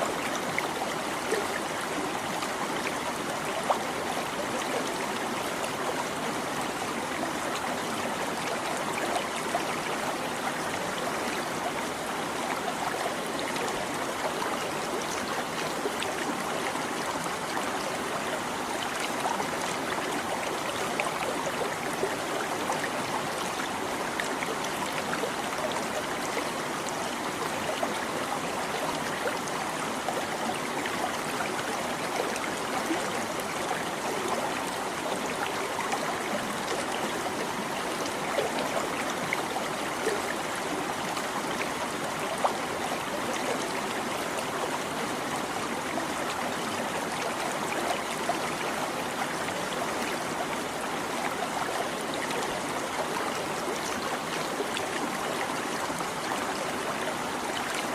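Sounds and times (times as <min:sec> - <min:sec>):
stream babbling over stones: 0:00.0 - 0:57.9.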